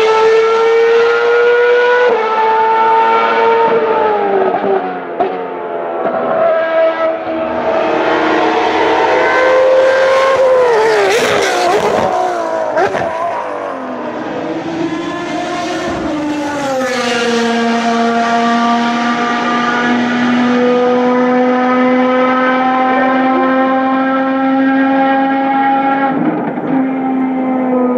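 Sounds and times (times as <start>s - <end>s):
racing car engines revving: 0.0s - 27.9s.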